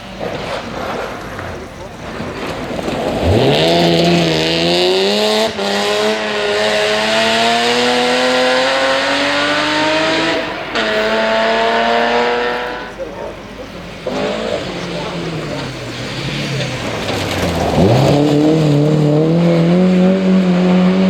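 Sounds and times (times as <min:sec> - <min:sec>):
tyres hissing: 0:00.0 - 0:18.9
rally car engine at full throttle: 0:00.0 - 0:21.0.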